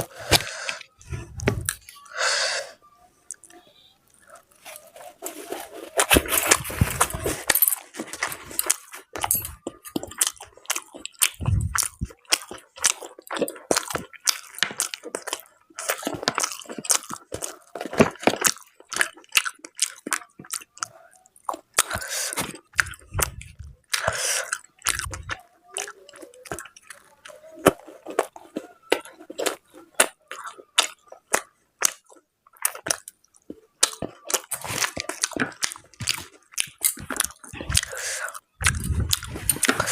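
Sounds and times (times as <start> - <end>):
person chewing food: 0.0 - 2.4, 3.3 - 39.9.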